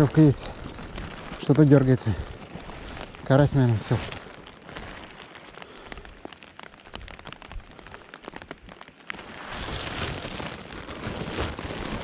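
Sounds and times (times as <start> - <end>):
rain falling: 0.0 - 12.0
raindrops ticking on microphone: 0.0 - 12.0.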